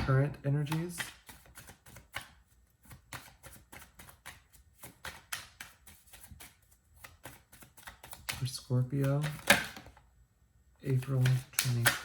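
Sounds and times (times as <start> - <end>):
cards shuffled by hand: 0.0 - 9.9, 10.9 - 12.0.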